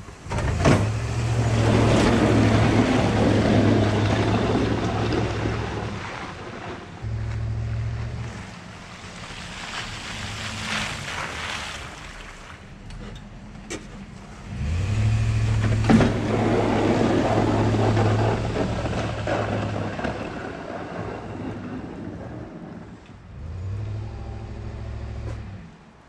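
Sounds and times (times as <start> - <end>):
pickup truck engine: 0.0 - 26.0
tyres on wet pavement: 0.0 - 26.0.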